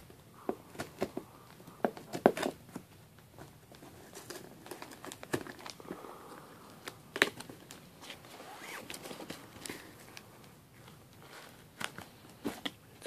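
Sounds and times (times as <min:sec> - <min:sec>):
crinkling tape and plastic: 0:00.6 - 0:13.0.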